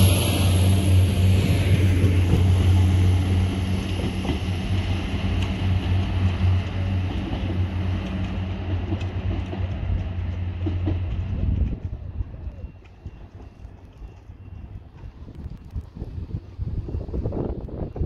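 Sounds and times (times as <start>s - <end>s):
train engine droning: 0.0s - 18.0s
wheel and rail rumble: 0.0s - 18.0s.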